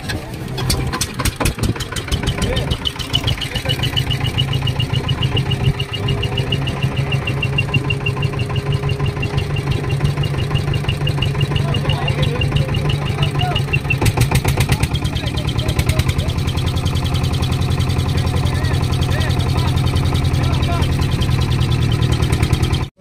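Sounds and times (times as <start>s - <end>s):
boat engine idling: 0.0s - 23.0s
fast high ticking: 0.7s - 22.9s.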